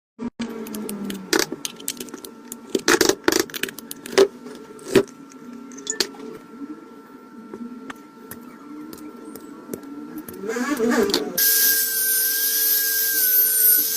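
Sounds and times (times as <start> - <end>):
faint background hum: 0.2 - 13.9.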